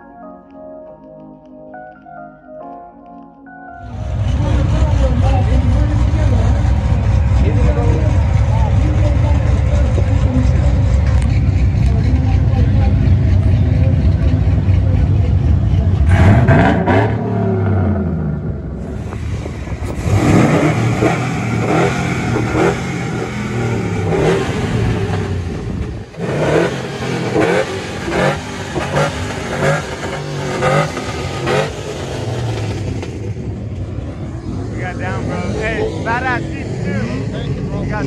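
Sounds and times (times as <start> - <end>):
pickup truck engines revving: 3.8 - 38.0.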